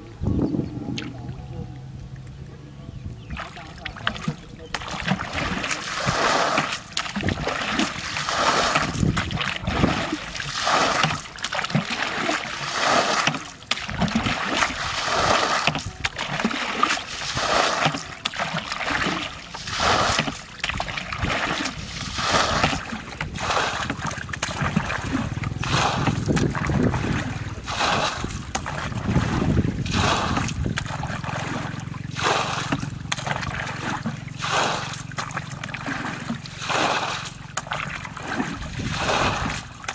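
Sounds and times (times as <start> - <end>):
water splashing from bucket: 3.4 - 39.9.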